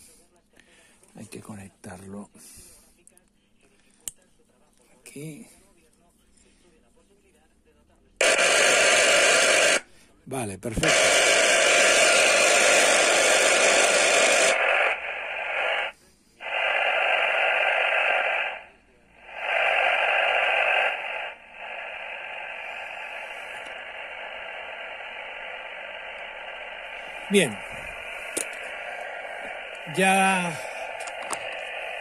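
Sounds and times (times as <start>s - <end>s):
radio static hiss: 0.0s - 3.0s, 8.2s - 32.0s.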